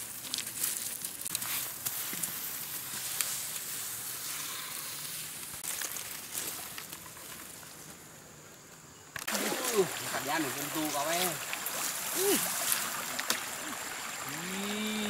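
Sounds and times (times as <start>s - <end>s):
dry grass and twigs crackling: 0.0s - 15.0s.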